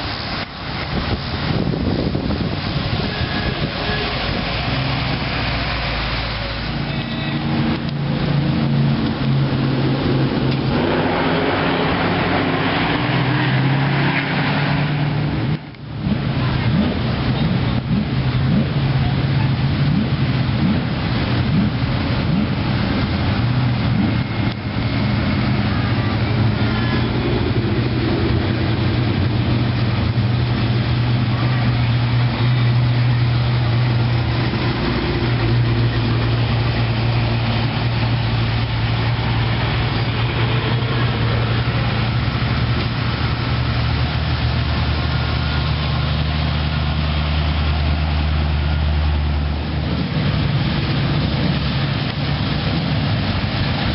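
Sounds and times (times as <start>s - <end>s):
deeper second engine: 0.0s - 53.9s
engine low rumble: 0.0s - 53.9s.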